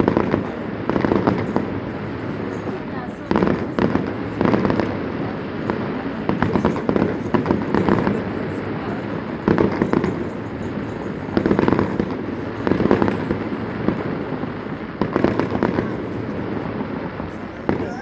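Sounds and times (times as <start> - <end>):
aerial fireworks bursting: 0.0 - 18.0
fireworks crackling: 0.0 - 18.0
volleys of firework bangs: 0.0 - 18.0.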